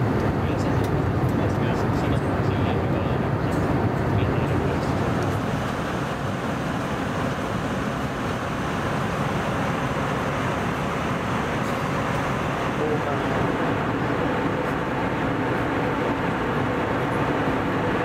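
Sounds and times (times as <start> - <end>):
airplane cabin engine and airflow noise: 0.0 - 18.0.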